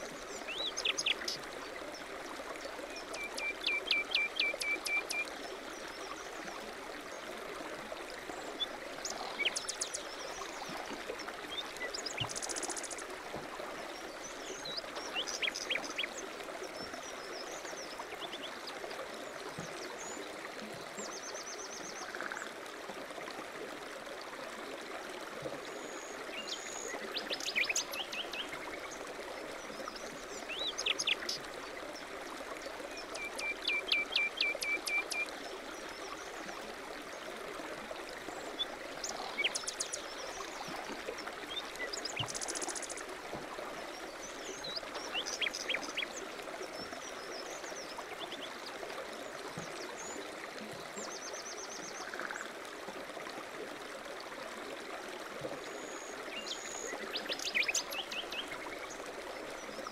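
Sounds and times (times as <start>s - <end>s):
small stream running: 0.0s - 59.9s.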